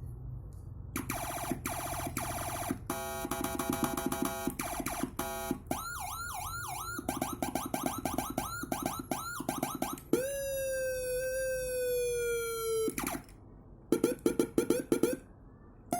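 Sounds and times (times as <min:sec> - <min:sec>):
electronic siren cycling tones: 0:01.0 - 0:13.3, 0:13.9 - 0:15.3.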